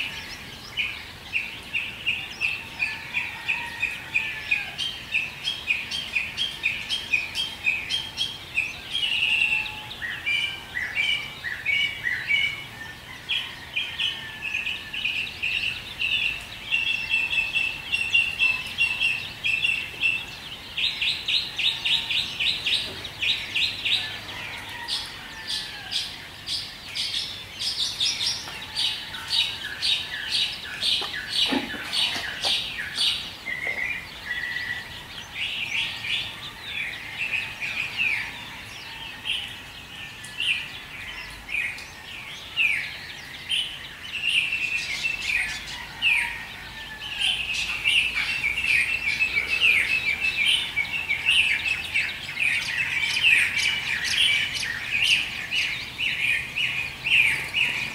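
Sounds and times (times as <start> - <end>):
small birds chirping and twittering: 0.0 - 57.9.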